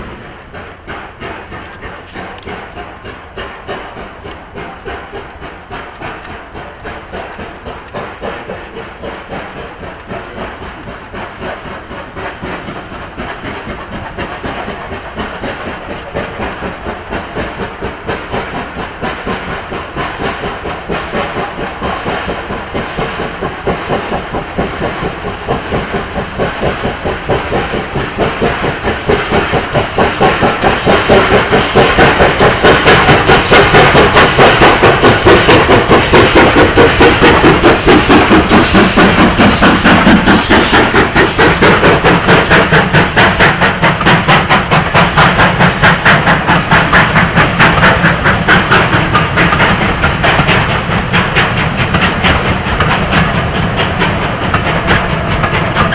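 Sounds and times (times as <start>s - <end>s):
steam locomotive chuffing: 0.0s - 55.9s.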